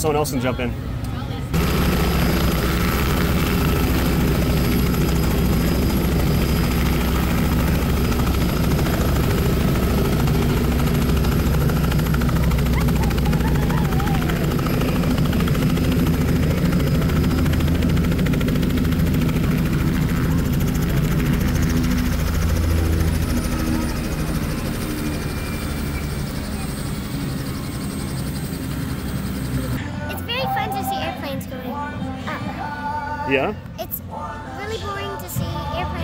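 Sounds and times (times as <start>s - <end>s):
helicopter rotor and engine: 0.0s - 31.9s.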